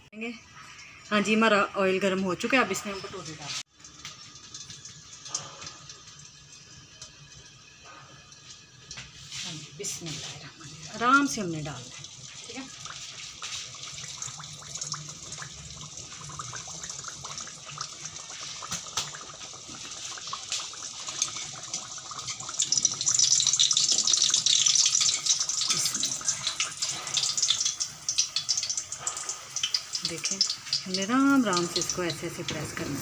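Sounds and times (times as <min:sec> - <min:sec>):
dough sizzling in hot oil: 0:00.1 - 0:33.0.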